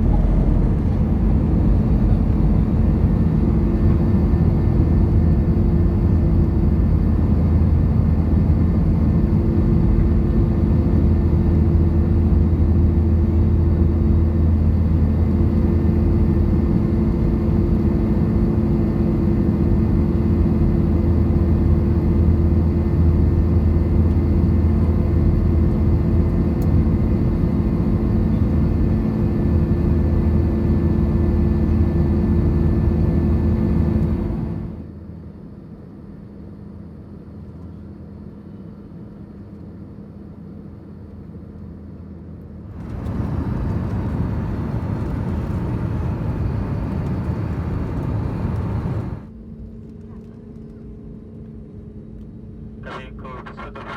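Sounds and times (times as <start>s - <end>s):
jet engine drone in cabin: 0.0s - 53.9s.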